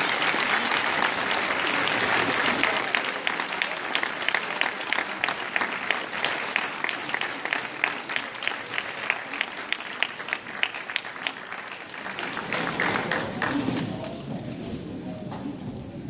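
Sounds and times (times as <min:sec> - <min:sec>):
close sharp claps: 0:00.0 - 0:14.0
audience applauding: 0:00.0 - 0:14.1.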